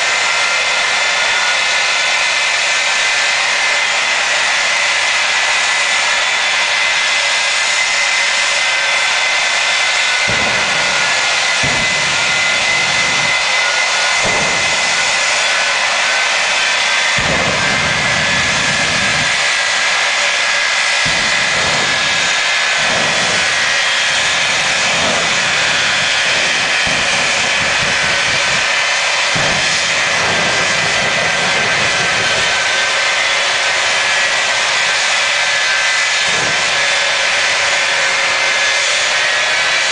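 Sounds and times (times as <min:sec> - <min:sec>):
deep low engine surges: 0:00.0 - 0:39.9
jet engines roaring: 0:00.0 - 0:39.9.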